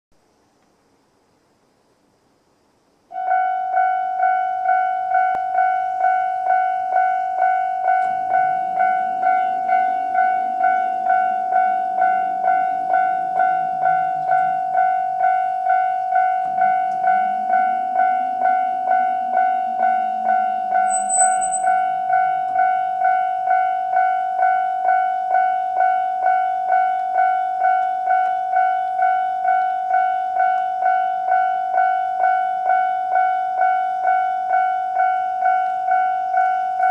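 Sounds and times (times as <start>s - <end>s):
level crossing warning bell: 3.2s - 36.9s.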